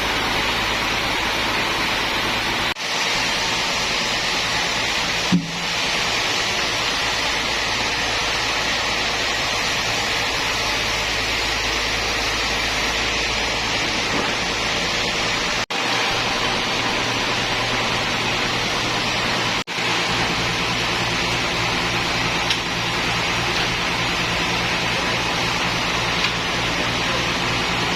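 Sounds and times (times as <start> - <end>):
sawmill machinery running: 0.0 - 27.9.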